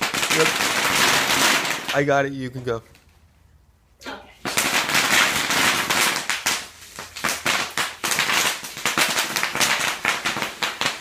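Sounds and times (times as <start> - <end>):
bubble wrap popping under wheels: 0.0 - 3.2, 4.3 - 11.0.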